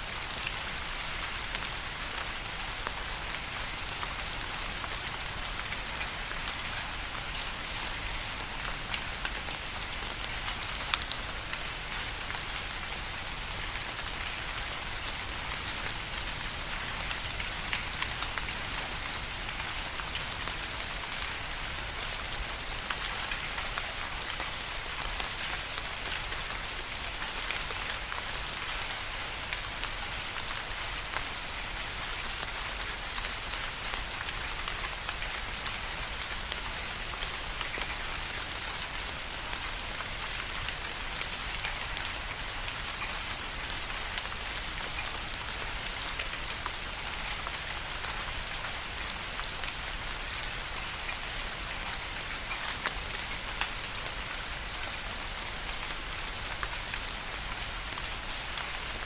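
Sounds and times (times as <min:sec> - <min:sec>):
rain with drops ticking: 0:00.0 - 0:59.0.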